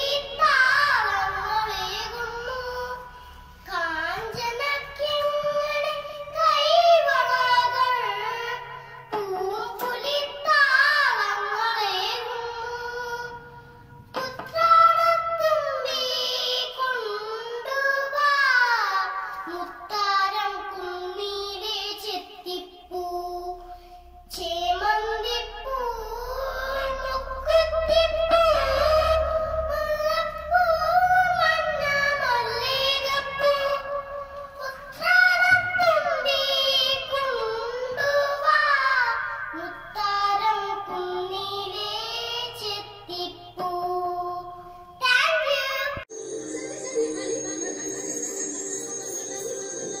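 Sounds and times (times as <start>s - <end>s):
girl singing: 0.0s - 50.0s.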